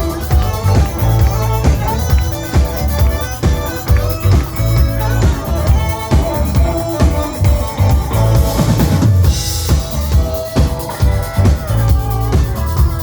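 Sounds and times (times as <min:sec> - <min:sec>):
band playing live: 0:00.0 - 0:13.0.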